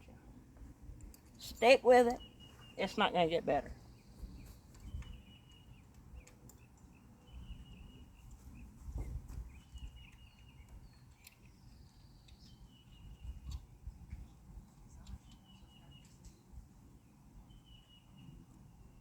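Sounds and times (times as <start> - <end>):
birds chirping: 0.9 - 19.0.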